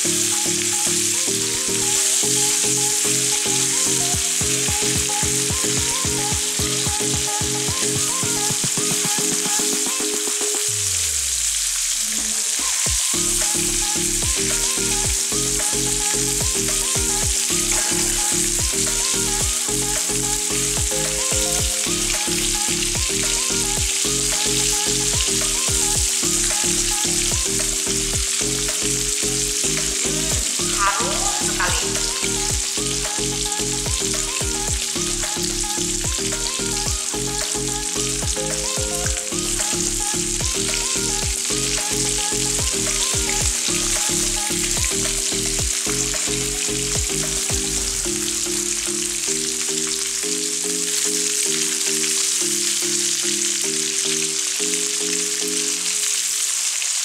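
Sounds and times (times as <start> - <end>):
soft background music: 0.0 - 56.8
meatballs sizzling in oil: 0.0 - 57.0.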